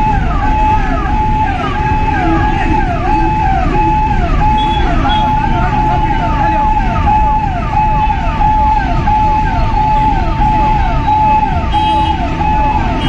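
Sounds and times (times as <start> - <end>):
electronic siren: 0.0 - 13.0.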